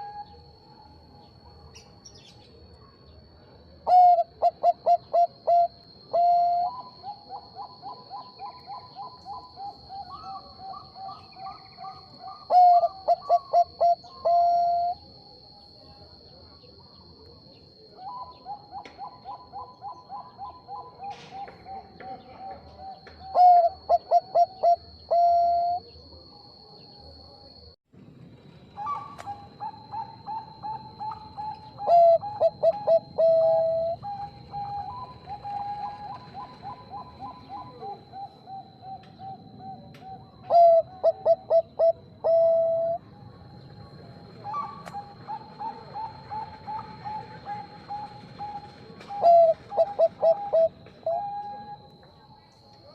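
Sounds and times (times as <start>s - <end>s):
doves cooing: 3.2s - 15.1s, 16.6s - 26.8s, 28.7s - 51.9s.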